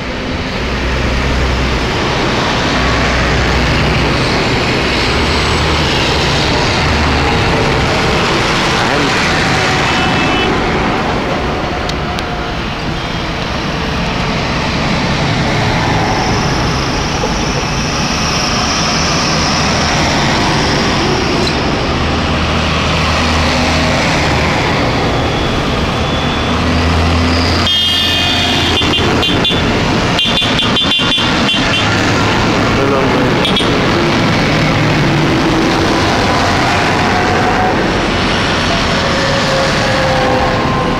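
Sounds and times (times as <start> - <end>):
tractor diesel engines passing: 0.0 - 40.9
tyres humming on tarmac: 0.0 - 40.9.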